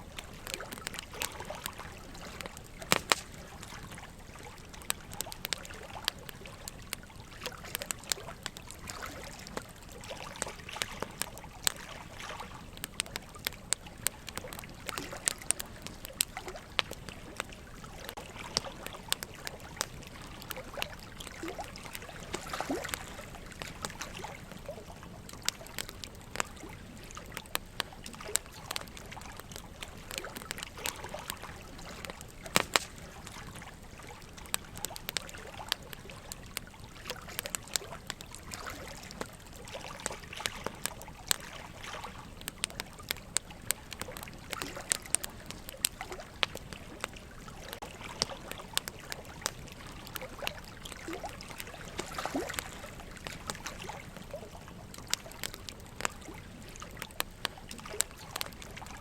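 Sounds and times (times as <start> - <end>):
running water trickling: 0.0 - 59.0
wood fire crackling: 0.0 - 59.0.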